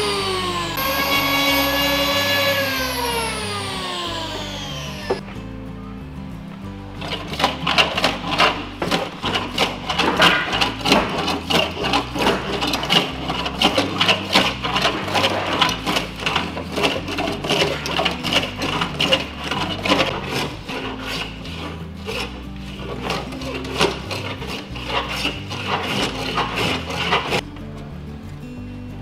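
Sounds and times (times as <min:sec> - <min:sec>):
hand plane shaving wood: 0:00.0 - 0:05.2, 0:07.0 - 0:27.4.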